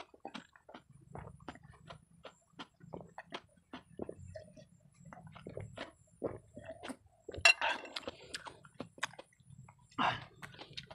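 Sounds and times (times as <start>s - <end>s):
person gulping a drink: 0.0s - 10.9s.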